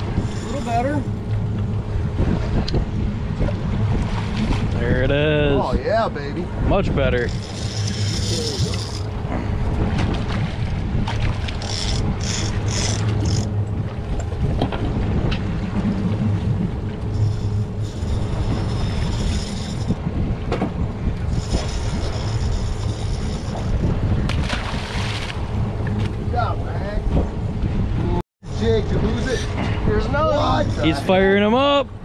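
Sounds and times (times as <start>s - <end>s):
outboard engine idling: 0.0s - 24.2s, 28.5s - 31.8s
wind buffeting microphone: 0.0s - 32.0s.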